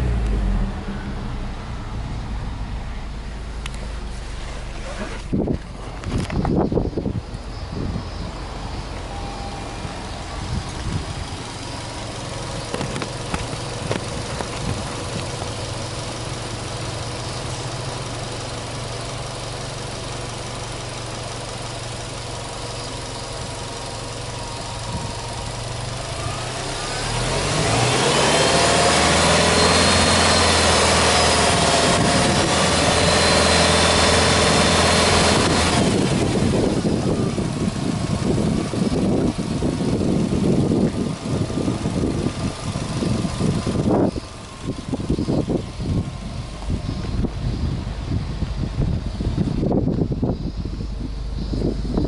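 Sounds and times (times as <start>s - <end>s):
car engine idling: 0.0s - 52.0s
rising whine: 0.0s - 52.0s.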